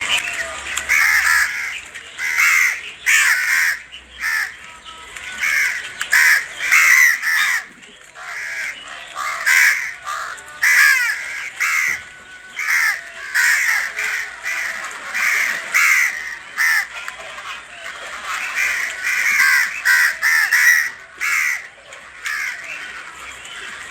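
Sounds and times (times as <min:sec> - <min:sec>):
birds harsh calls: 0:00.0 - 0:23.9.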